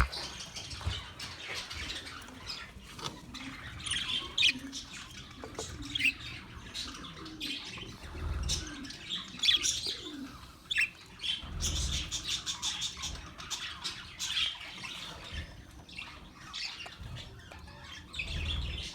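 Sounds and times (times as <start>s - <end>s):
budgerigars chirping: 0.0s - 18.9s.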